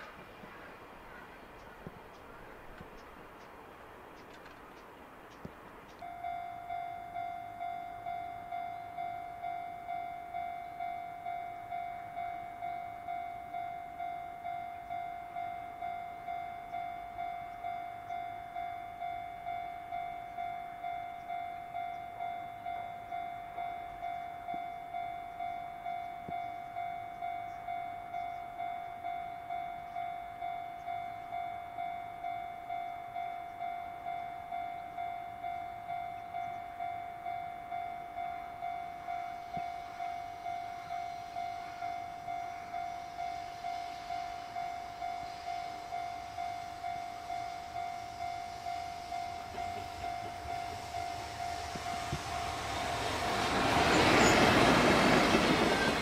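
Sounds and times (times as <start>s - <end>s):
level-crossing warning bell: 5.9s - 56.0s.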